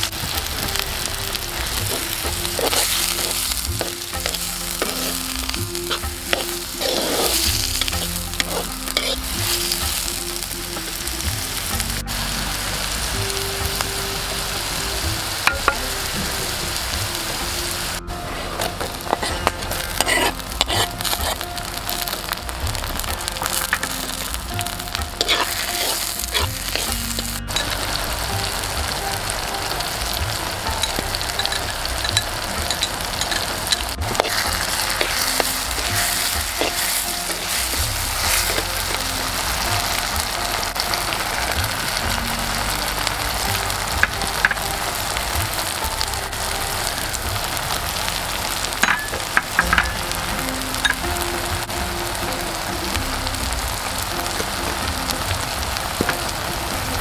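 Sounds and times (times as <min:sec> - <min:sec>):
steel spatula scraping: 0:00.0 - 0:11.1, 0:15.4 - 0:50.1
vegetables sizzling in oil: 0:00.0 - 0:57.0.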